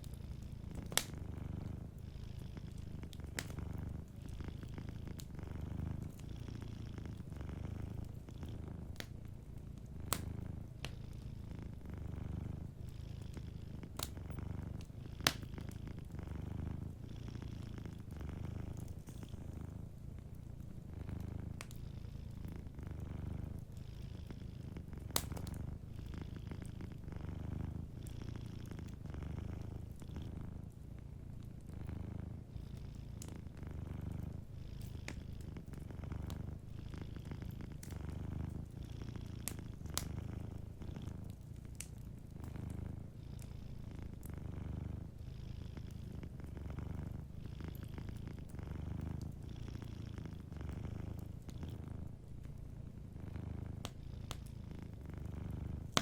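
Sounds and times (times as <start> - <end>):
wood fire crackling: 0.0 - 23.8, 24.5 - 45.2, 50.2 - 56.0
cat purring: 0.0 - 56.0.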